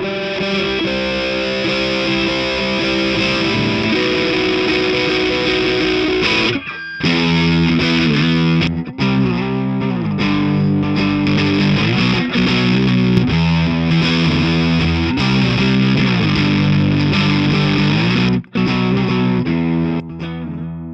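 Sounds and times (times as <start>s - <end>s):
distorted electric guitar chords: 0.0s - 20.9s.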